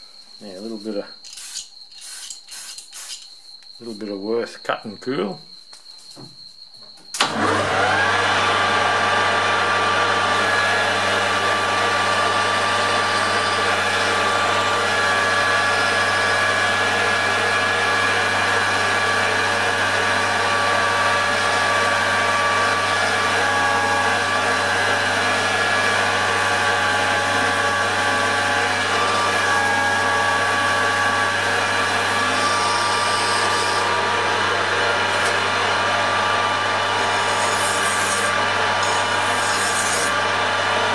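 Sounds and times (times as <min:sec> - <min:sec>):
metal lathe motor humming: 0:07.2 - 0:40.9.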